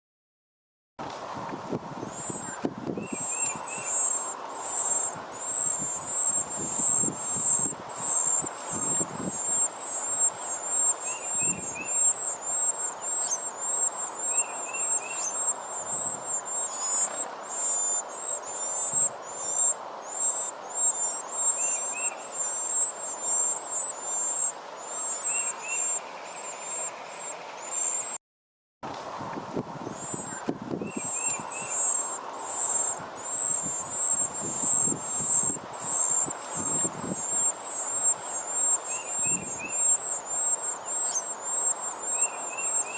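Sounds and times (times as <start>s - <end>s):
nestling birds begging chirps: 2.0s - 28.2s, 29.8s - 42.9s.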